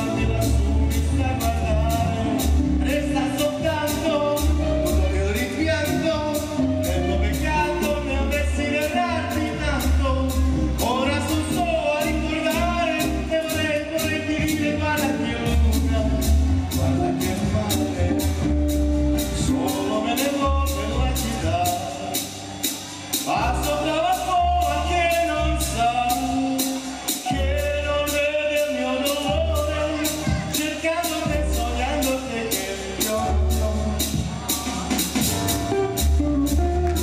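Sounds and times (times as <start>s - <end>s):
man singing into a microphone: 0.0s - 18.5s, 19.3s - 22.3s, 23.2s - 35.0s
instrumental backing with beat: 0.0s - 37.0s.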